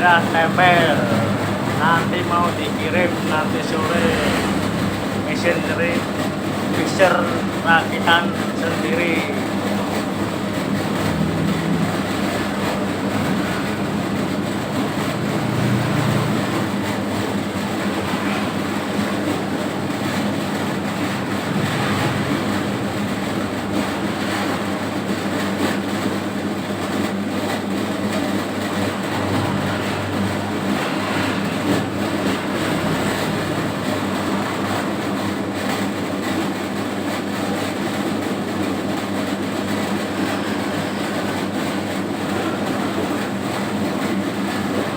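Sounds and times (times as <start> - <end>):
dough mixer motor drone: 0.0 - 44.9.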